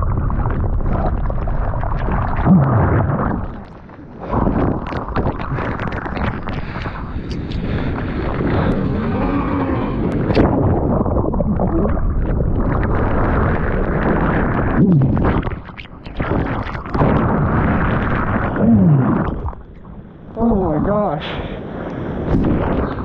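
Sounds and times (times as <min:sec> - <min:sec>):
waves churning turbulent water: 0:00.0 - 0:23.0.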